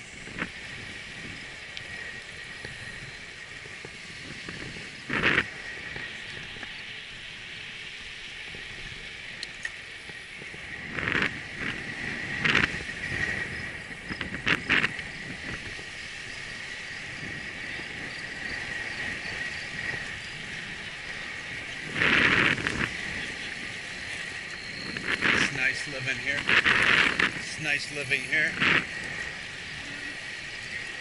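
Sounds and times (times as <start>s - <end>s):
bicycle jolts: 0.0s - 31.0s
bicycle tyre and wind noise: 0.0s - 31.0s.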